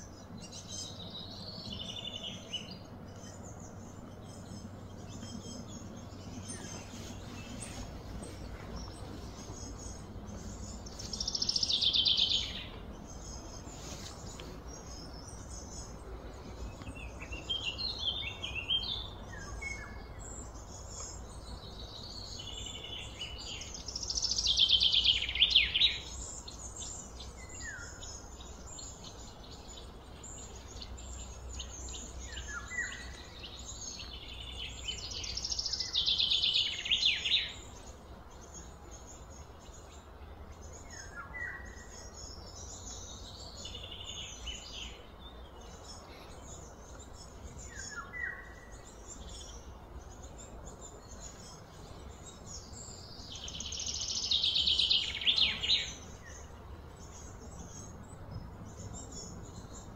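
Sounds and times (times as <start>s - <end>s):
birds calling and chirping: 0.0s - 59.9s
steady low hum: 0.0s - 59.9s.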